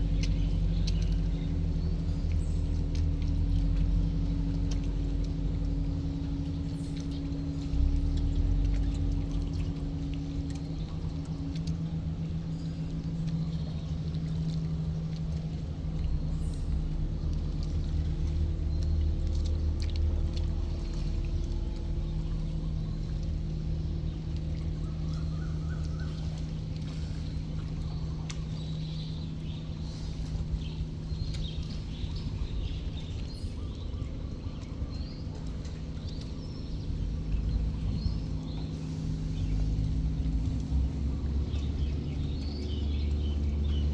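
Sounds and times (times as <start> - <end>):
tugboat diesel engines droning: 0.0 - 43.9
water splashing around hulls: 0.0 - 43.9.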